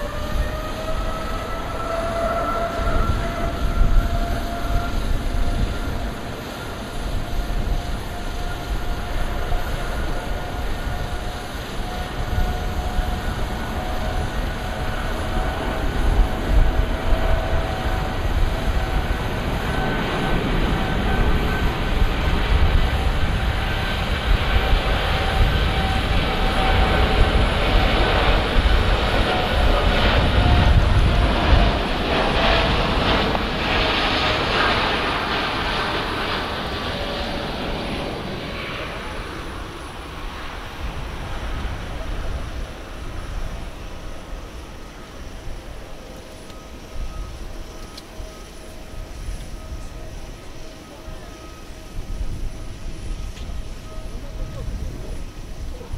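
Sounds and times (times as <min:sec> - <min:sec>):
jet engines two-tone whine: 0:00.0 - 0:55.9.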